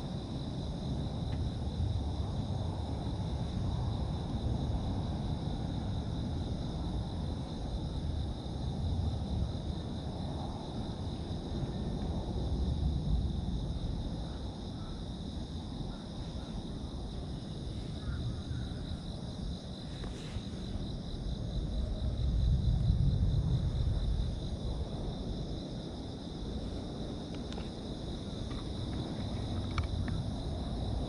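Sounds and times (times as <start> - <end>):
insect chorus: 0.0 - 31.0.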